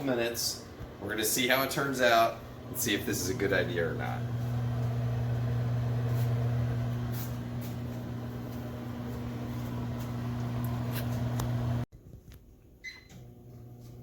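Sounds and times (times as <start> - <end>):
microwave oven humming: 0.0 - 11.9, 12.8 - 14.0.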